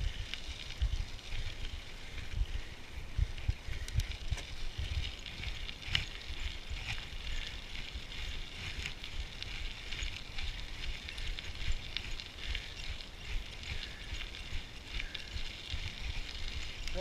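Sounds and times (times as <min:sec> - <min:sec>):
crackles and ticks: 0:00.0 - 0:17.0
wind buffeting microphone: 0:00.0 - 0:17.0.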